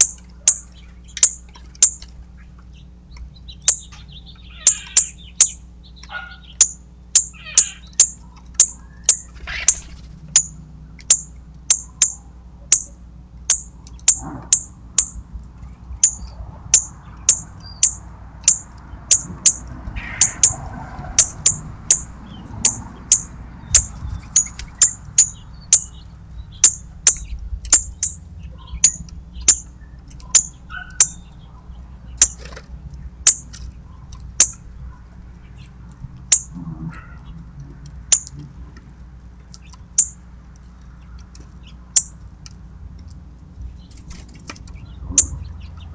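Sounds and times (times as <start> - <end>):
bird chip notes: 0.0 - 15.3, 16.0 - 20.6, 21.2 - 34.8, 38.0 - 38.6, 39.4 - 42.2.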